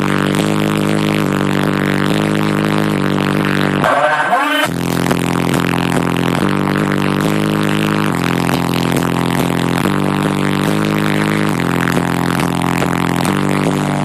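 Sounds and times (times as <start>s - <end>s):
deep bass music from subwoofers: 0.0s - 14.0s.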